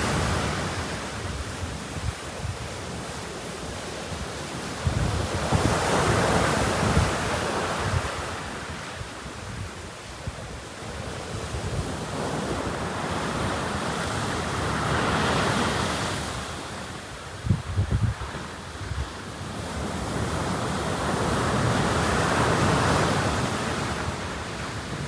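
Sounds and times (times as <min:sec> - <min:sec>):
sea surf washing onto beach: 0:00.0 - 0:25.0
wind rumbling on microphone: 0:00.0 - 0:25.0.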